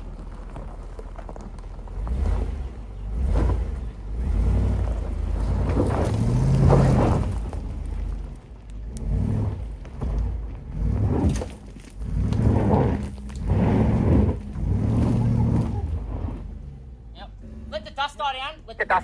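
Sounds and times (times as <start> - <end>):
wheels spinning on gravel: 0.0 - 16.6
car engine revving: 0.0 - 19.0.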